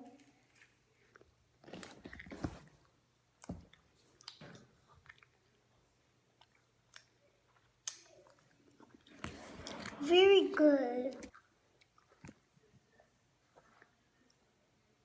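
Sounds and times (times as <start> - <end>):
child chewing candy: 0.0 - 10.0, 11.1 - 14.7.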